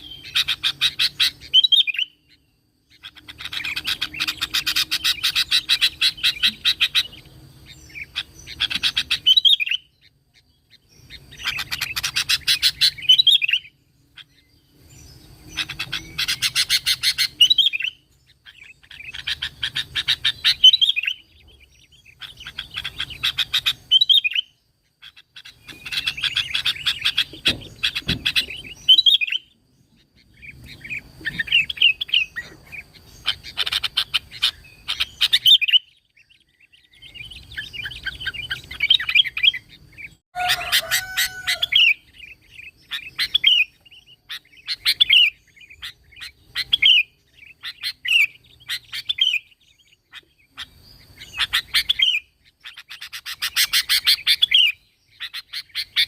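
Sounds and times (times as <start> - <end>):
bird chirping and singing: 0.0 - 56.0.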